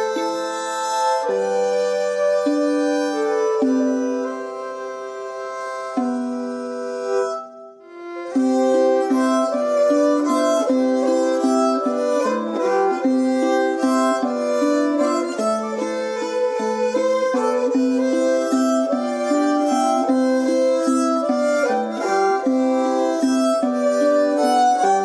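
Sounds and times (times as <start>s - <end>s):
fiddle playing folk waltz: 0.0s - 25.0s
plucked string accompaniment: 0.0s - 25.0s.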